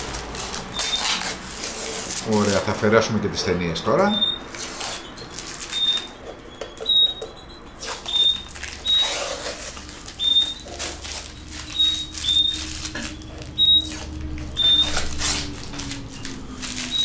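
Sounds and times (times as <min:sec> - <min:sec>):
adhesive tape peeling off: 0:00.0 - 0:03.0, 0:04.2 - 0:17.0.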